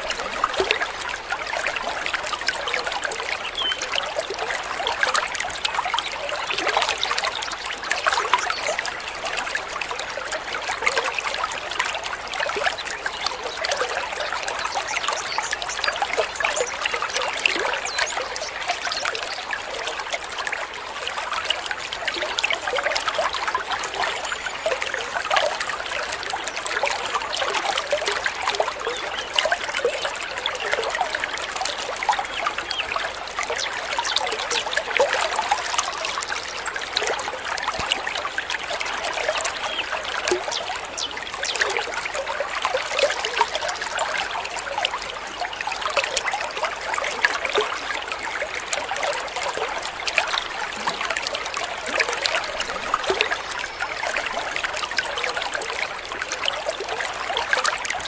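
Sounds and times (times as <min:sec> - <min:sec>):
water babbling and trickling: 0:00.0 - 0:58.0.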